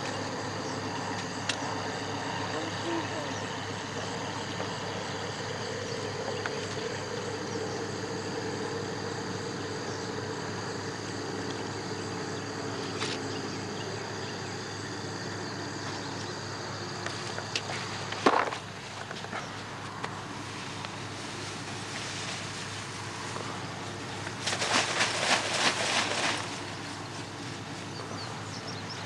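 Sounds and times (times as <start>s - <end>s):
constant hiss: 0.0s - 29.0s
insect chorus trilling: 0.0s - 29.0s.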